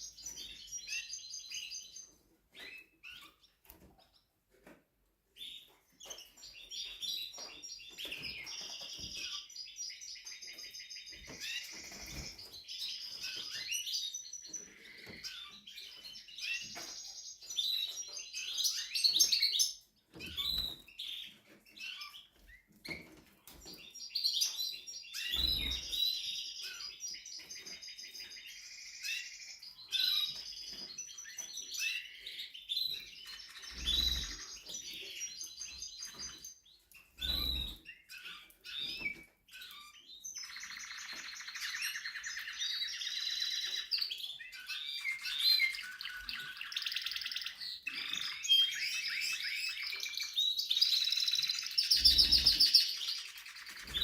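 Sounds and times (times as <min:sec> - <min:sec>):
canary singing trills: 0:05.4 - 0:54.0.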